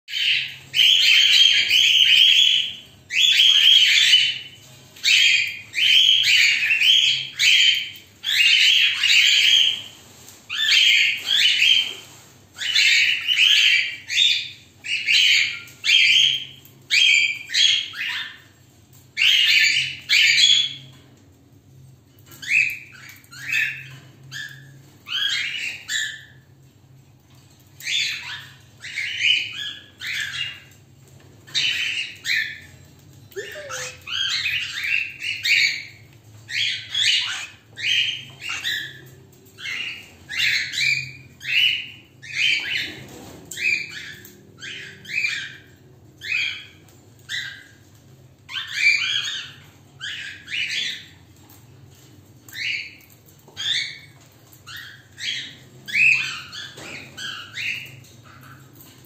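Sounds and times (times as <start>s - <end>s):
cockatiel chirping and squawking: 0.1s - 21.0s, 22.1s - 26.5s, 27.3s - 30.8s, 31.4s - 59.0s.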